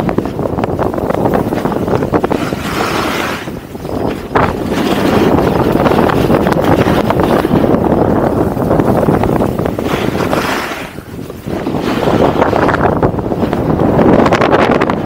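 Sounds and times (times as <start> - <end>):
wind buffeting microphone: 0.0 - 15.0
snowboard edge scraping snow: 0.4 - 14.6.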